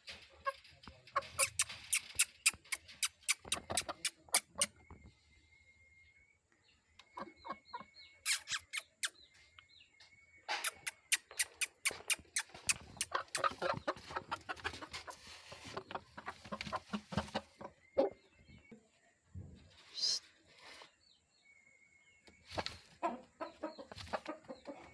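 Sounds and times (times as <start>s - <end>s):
chickens clucking: 0.0s - 5.2s, 6.9s - 9.6s, 10.4s - 20.2s, 22.2s - 24.9s.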